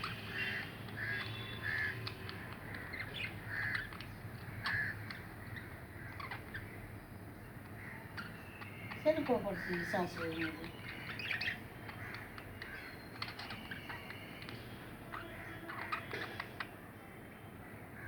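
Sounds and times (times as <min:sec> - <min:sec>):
budgerigars squawking and chirping: 0:00.0 - 0:06.9, 0:07.8 - 0:14.5, 0:15.1 - 0:16.6.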